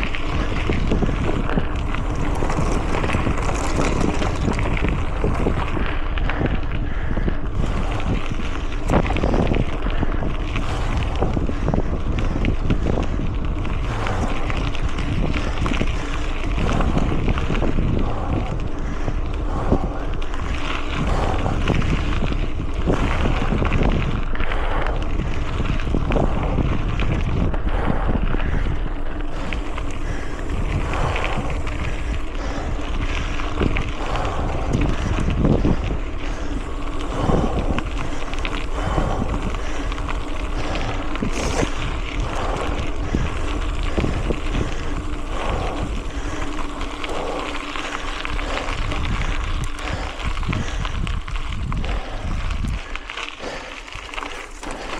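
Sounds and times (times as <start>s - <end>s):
bicycle tyre noise: 0.0s - 54.9s
bike knocking and rattling: 0.0s - 54.9s
wind buffeting microphone: 0.0s - 54.9s.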